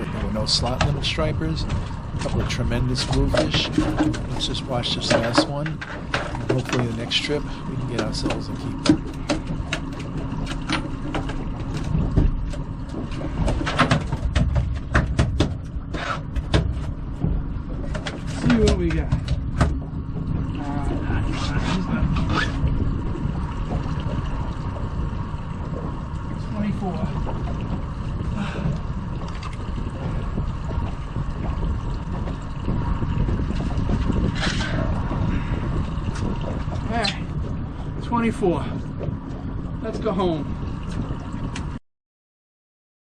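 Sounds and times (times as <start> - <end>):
boat engine running: 0.0 - 41.8
wind buffeting microphone: 0.0 - 41.8.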